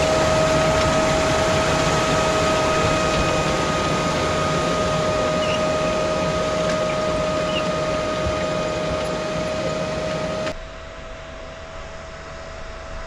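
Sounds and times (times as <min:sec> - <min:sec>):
tractor engine running: 0:00.0 - 0:12.6
steady machine whine: 0:00.0 - 0:13.0.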